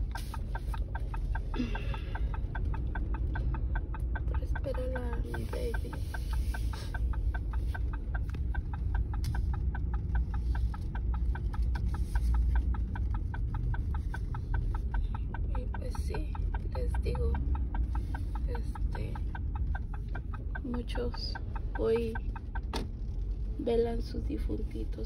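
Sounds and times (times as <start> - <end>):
engine idling: 0.0 - 25.0
turn signal ticking: 0.0 - 25.0.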